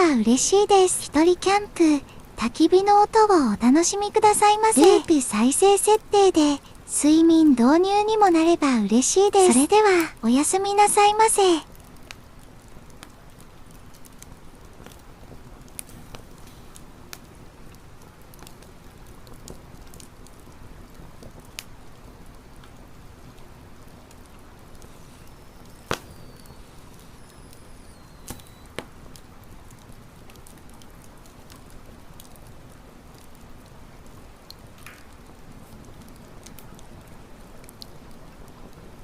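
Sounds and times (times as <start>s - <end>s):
low steady fire hiss: 0.0s - 39.0s
wood crackling and popping: 0.0s - 39.0s.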